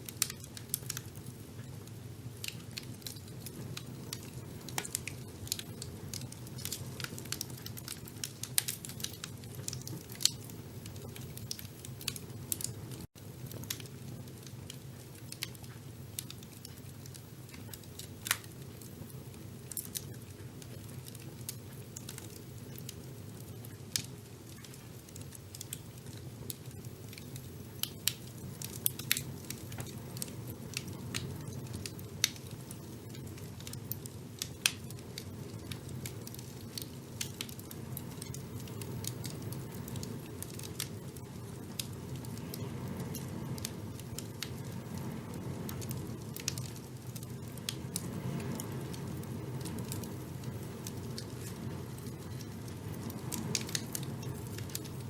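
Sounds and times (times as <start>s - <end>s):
fire crackling and popping: 0.0s - 55.0s
fire flames rumbling: 0.0s - 55.0s.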